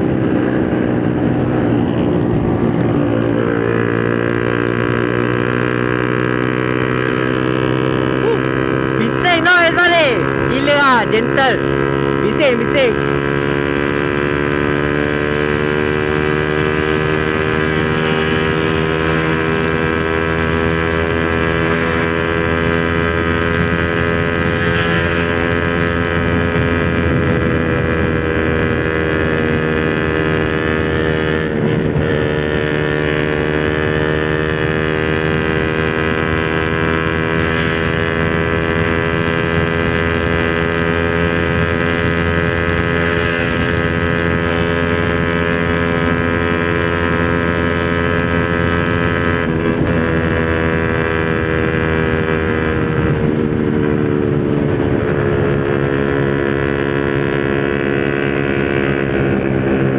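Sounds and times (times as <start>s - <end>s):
single-cylinder engine running: 0.0s - 59.9s.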